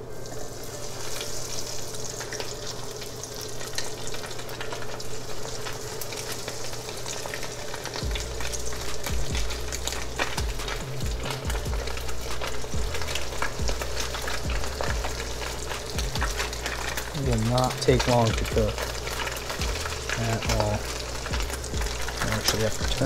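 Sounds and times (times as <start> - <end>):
fish frying in hot oil: 0.0 - 23.0.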